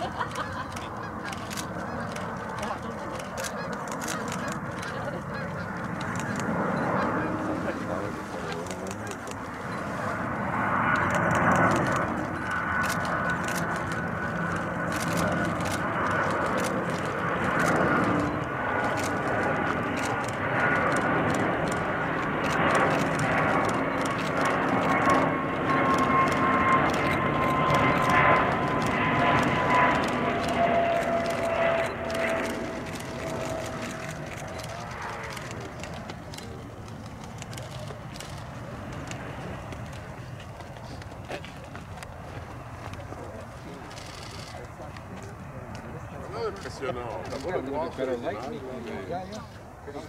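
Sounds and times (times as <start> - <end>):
jet roar with engine whine: 0.0 - 50.0.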